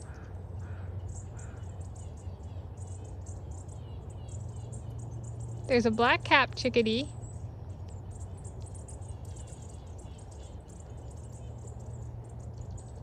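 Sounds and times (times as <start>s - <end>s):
small songbirds chipping: 0.0s - 13.0s
steady low hum: 0.0s - 13.0s.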